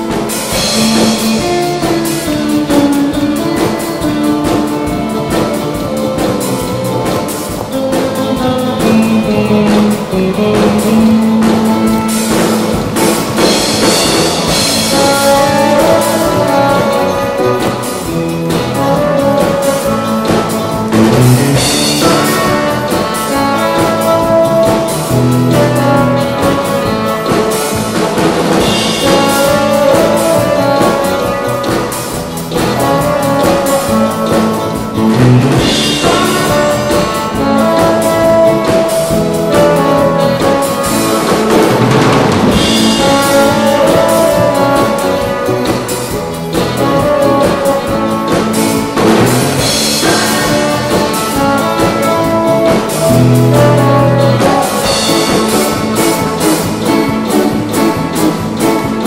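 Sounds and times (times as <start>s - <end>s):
band with drum beat: 0.0s - 59.0s
saxophone melody: 0.0s - 59.0s.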